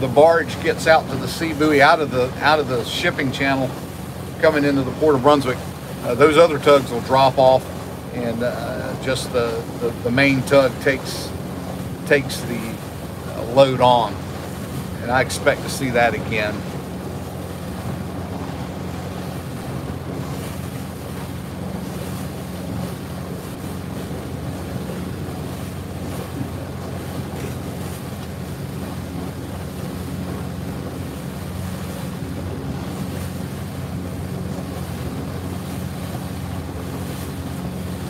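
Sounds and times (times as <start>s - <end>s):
boat engine humming: 0.0s - 38.0s
rushing water: 0.0s - 38.0s
wind buffeting microphone: 0.0s - 38.0s.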